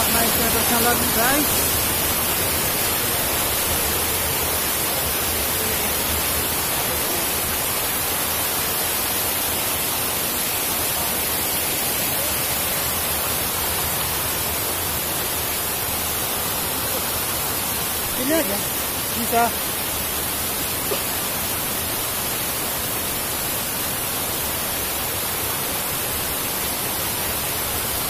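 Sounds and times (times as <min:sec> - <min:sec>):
waterfall rushing over rock: 0:00.0 - 0:28.0.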